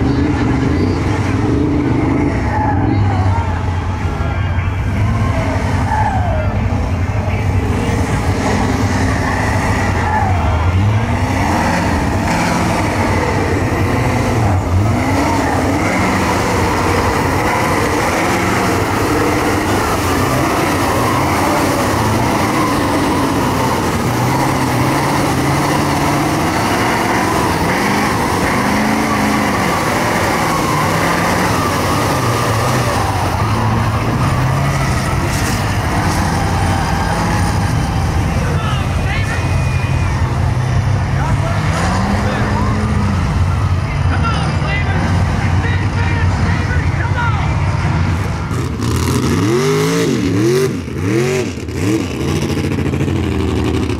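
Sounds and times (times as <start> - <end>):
diesel truck engine revving: 0.0 - 53.9.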